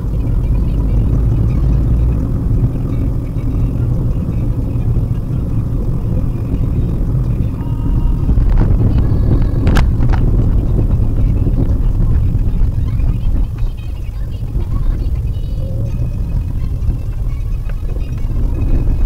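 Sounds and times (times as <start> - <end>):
car road and engine rumble: 0.0 - 19.0
faint tones: 0.0 - 19.0.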